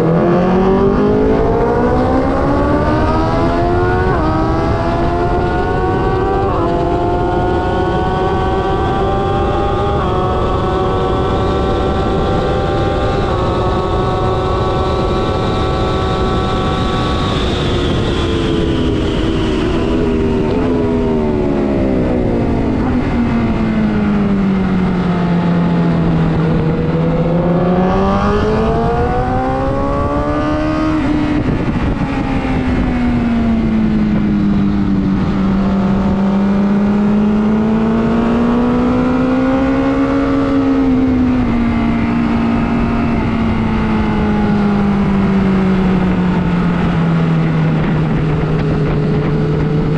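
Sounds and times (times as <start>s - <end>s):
motorcycle engine revving: 0.0s - 49.9s
rush of noise: 0.0s - 49.9s.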